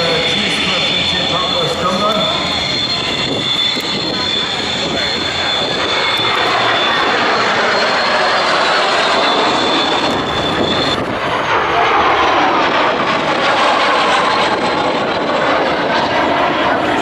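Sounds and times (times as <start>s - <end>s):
jet roar with high whistle: 0.0s - 17.0s.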